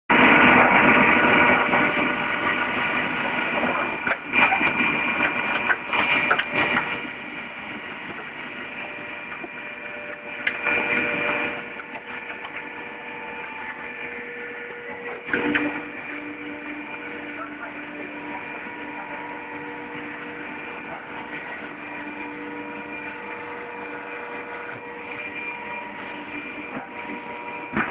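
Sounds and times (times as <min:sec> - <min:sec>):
press motor hum: 0:00.2 - 0:27.9.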